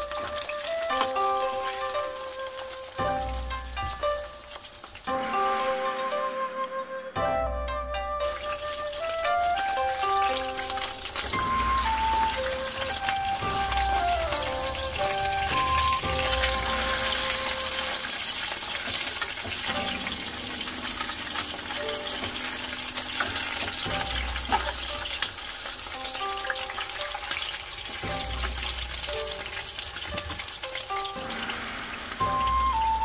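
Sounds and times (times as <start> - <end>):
background music: 0.0 - 33.0
chicken frying in hot oil: 0.0 - 33.0.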